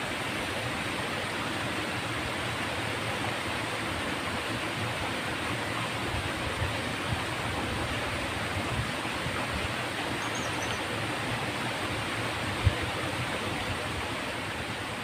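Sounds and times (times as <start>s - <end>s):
stream water rushing over weir: 0.0s - 15.0s.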